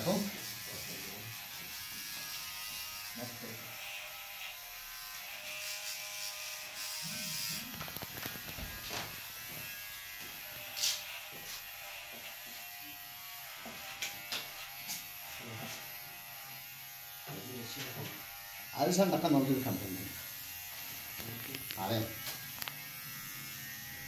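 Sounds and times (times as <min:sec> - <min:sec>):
electric hair clippers buzzing: 0:00.0 - 0:24.0.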